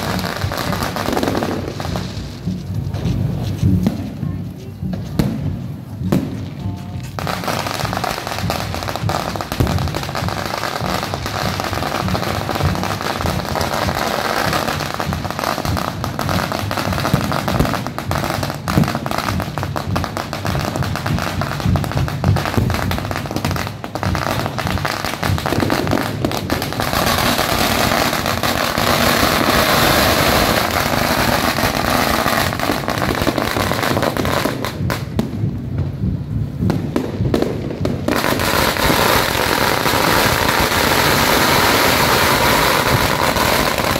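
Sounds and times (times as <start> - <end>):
fireworks crackling and banging: 0.0 - 43.9.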